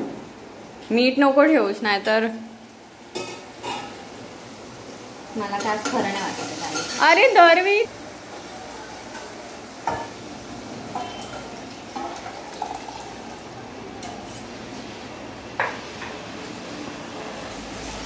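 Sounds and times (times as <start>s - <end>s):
low steady sizzle: 0.0s - 18.0s.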